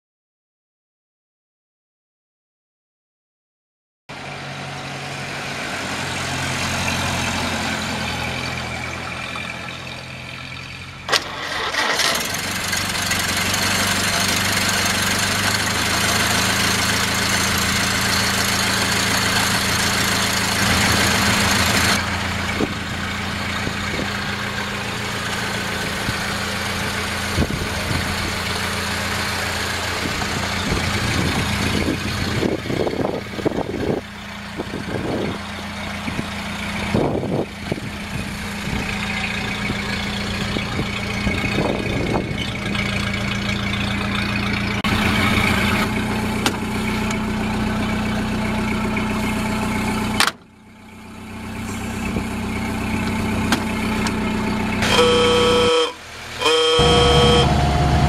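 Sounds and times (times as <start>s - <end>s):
car engine idling: 5.6s - 58.0s.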